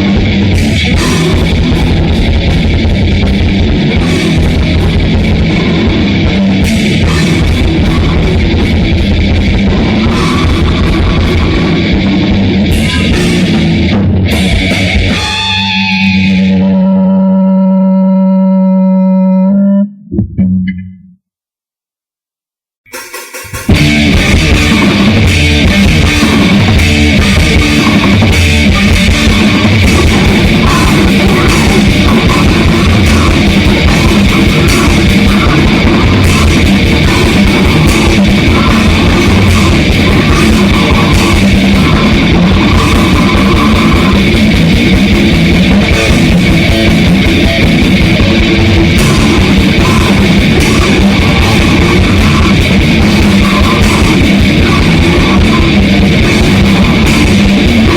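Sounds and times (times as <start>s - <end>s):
drum kit pounding fast: 0.0s - 16.4s, 22.9s - 57.9s
distorted electric guitars: 0.0s - 21.2s, 22.9s - 57.9s.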